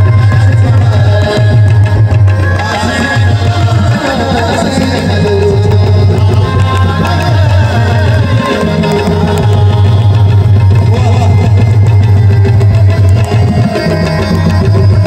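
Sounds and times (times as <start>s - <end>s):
hand drum rhythm: 0.0s - 15.0s
harmonium melody: 0.0s - 15.0s.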